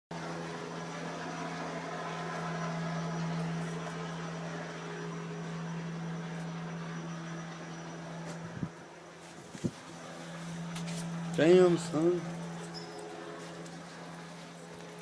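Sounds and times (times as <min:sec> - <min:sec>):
steady mechanical hum: 0:00.1 - 0:15.0.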